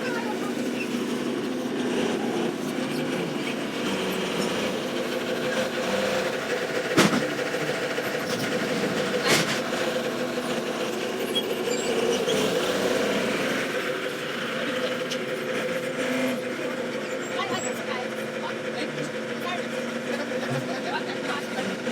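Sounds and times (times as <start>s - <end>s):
lorry engine droning: 0.0s - 21.9s.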